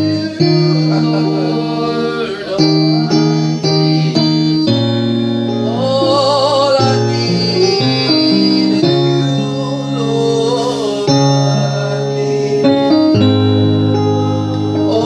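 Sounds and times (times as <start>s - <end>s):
instruments playing held chords: 0.0s - 15.0s
person singing with vibrato: 0.0s - 15.0s.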